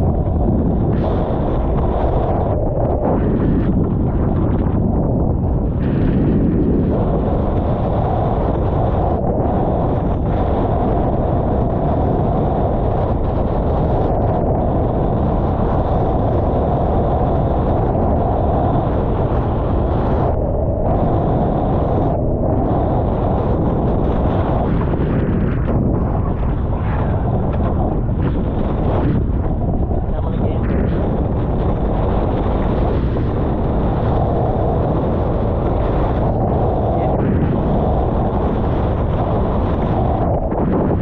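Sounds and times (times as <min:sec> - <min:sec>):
water rushing along hulls: 0:00.0 - 0:41.0
wind buffeting microphone: 0:00.0 - 0:41.0.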